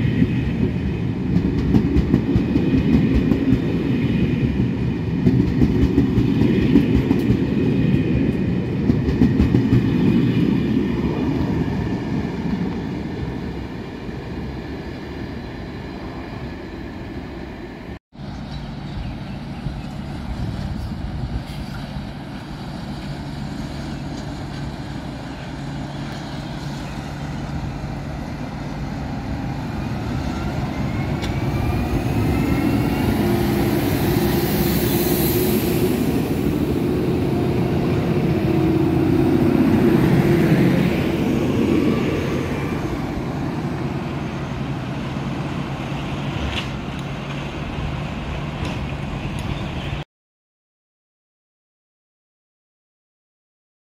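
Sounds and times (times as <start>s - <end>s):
train pulling away: 5.4s - 50.0s.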